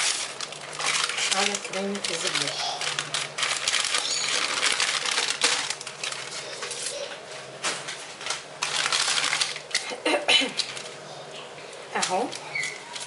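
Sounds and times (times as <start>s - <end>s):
baking paper rustling and crackling: 0.0s - 13.0s.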